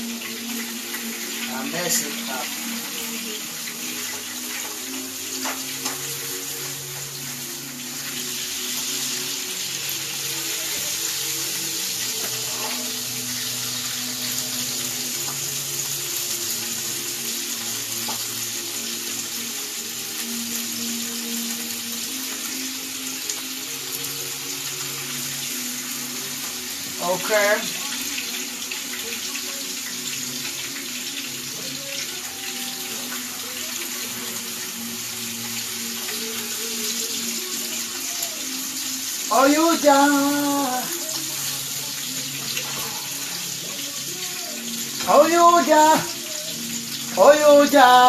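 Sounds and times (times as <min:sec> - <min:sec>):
chicken sizzling in hot oil: 0:00.0 - 0:48.0
faint background music: 0:00.0 - 0:48.0.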